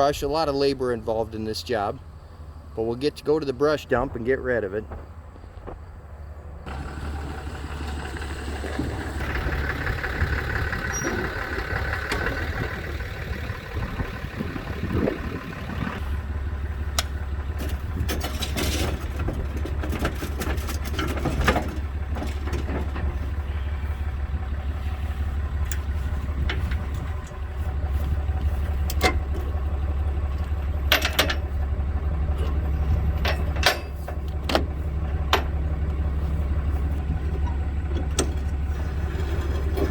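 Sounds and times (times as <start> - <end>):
pickup truck engine droning: 0.0 - 39.9.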